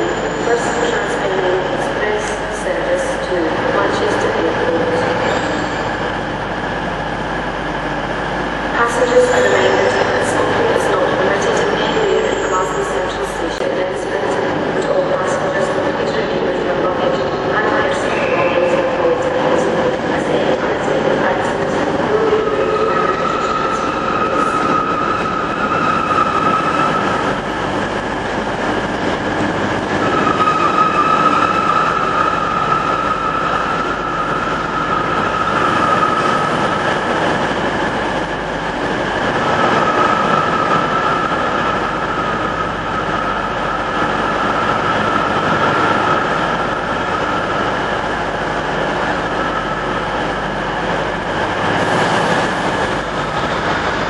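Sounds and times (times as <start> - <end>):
train engines and wheels rumbling: 0.0 - 54.0.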